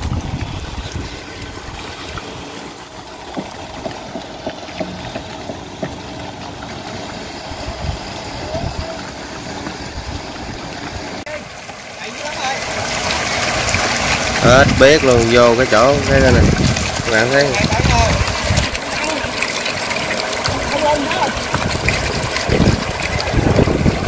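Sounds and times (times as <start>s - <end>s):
motor running: 0.0s - 24.0s
water rushing and splashing: 0.0s - 24.0s.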